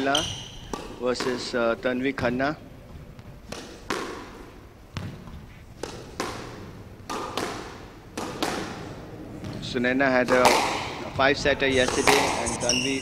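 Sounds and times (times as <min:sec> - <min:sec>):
racket hitting squash ball: 0:00.0 - 0:02.0, 0:02.9 - 0:12.8
ball hitting court walls: 0:00.0 - 0:12.3.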